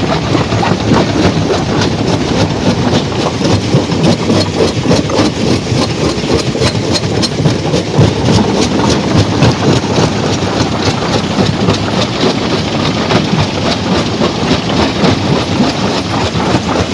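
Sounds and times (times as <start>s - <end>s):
stone crusher rumbling: 0.0s - 16.9s.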